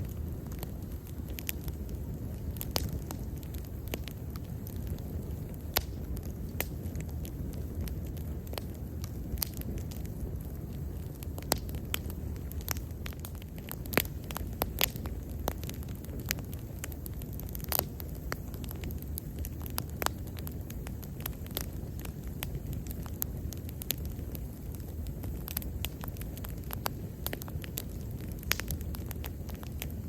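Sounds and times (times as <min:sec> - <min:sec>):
bonfire rumbling: 0:00.0 - 0:30.0
fire crackles and pops: 0:00.0 - 0:30.0.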